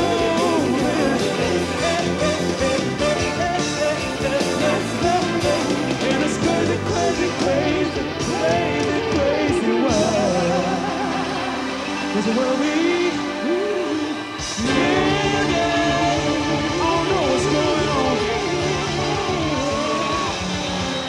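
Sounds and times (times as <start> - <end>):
wordless wavering vocal: 0.0 - 20.3
rock band playing: 0.0 - 21.0.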